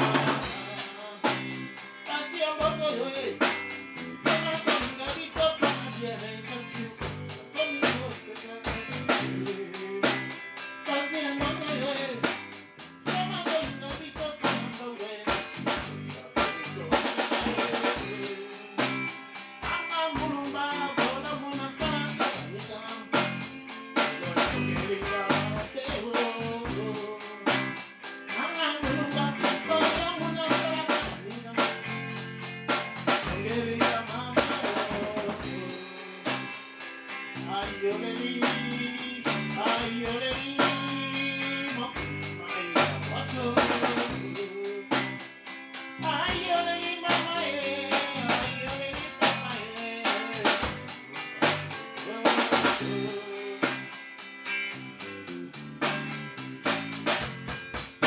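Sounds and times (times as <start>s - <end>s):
man singing: 0.0s - 36.6s, 37.3s - 54.0s
bass guitar: 0.0s - 58.0s
drum kit beat: 0.0s - 58.0s
strummed acoustic guitar: 0.0s - 58.0s.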